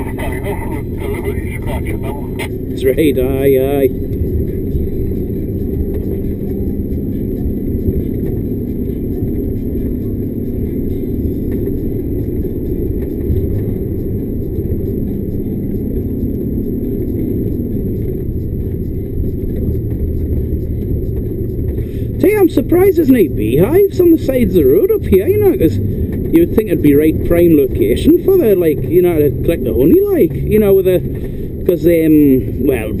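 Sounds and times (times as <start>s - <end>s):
diesel lorry engine drone: 0.0s - 33.0s.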